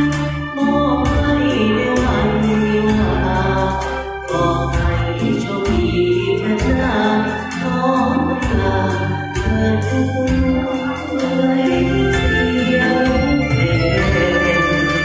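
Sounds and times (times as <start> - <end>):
light percussion: 0.0 - 15.0
organ-like keyboard chords: 0.0 - 15.0
steady bass line: 0.0 - 15.0.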